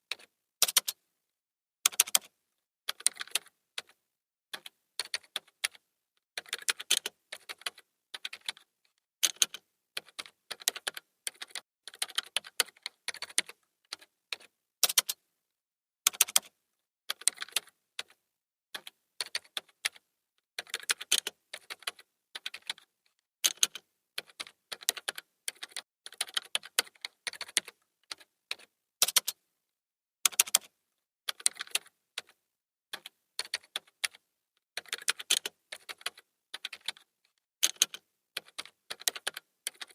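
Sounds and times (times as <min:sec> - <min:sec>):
typing on computer keyboard: 0:00.1 - 0:01.0, 0:01.9 - 0:05.8, 0:06.4 - 0:15.2, 0:16.1 - 0:18.2, 0:18.8 - 0:29.4, 0:30.3 - 0:34.2, 0:34.8 - 0:39.9.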